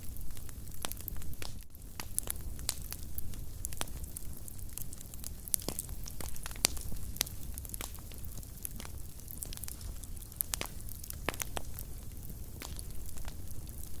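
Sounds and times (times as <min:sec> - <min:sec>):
flames rumbling: 0:00.0 - 0:14.0
wood fire crackling: 0:00.0 - 0:14.0.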